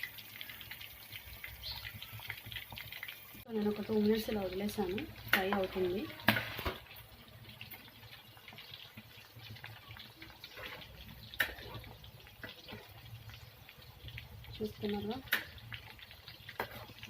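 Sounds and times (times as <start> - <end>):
food deep-frying in oil: 0.0 - 17.0
oil popping: 0.0 - 17.0.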